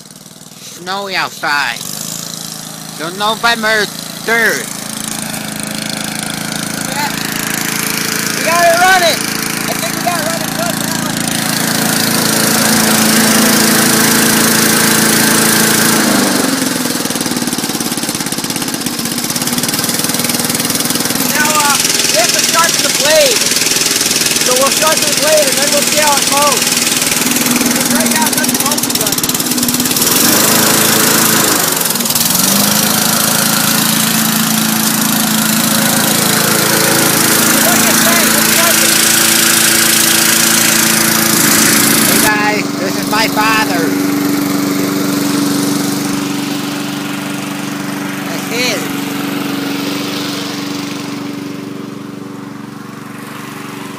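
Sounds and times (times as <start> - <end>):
lawn mower engine running: 0.0 - 53.9.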